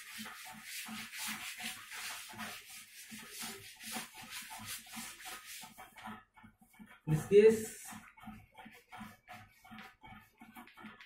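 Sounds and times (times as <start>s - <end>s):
duster rubbing chalkboard: 0.0s - 11.0s.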